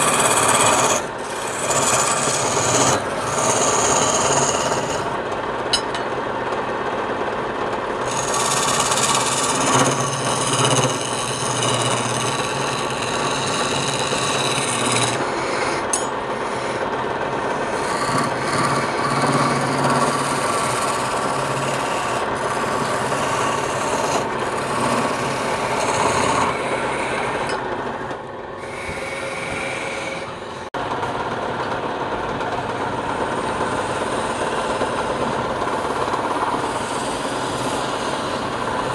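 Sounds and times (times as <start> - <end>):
lathe motor hum: 0.0 - 38.9
tool scraping spinning wood: 0.0 - 38.9.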